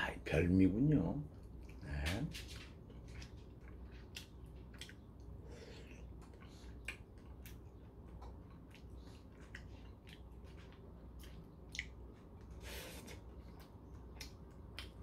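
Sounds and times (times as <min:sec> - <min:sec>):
faint chewing: 0:01.3 - 0:15.0.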